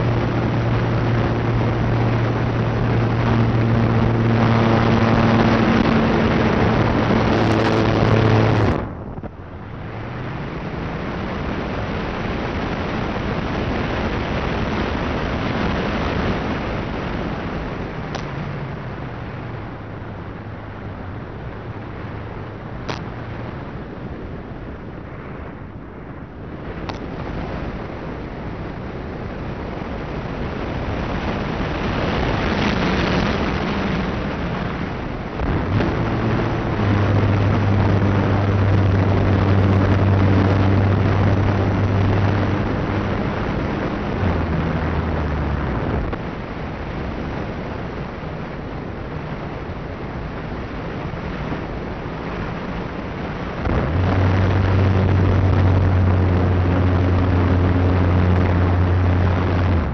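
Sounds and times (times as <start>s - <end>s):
low motor hum: 0.0s - 59.9s
wind buffeting microphone: 0.0s - 59.9s.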